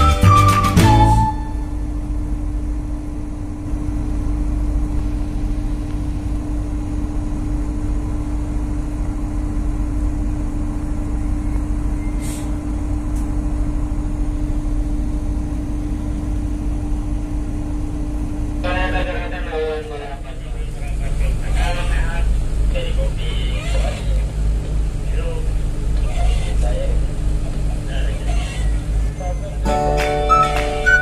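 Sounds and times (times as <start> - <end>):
diesel engine rumbling: 0.0 - 31.0.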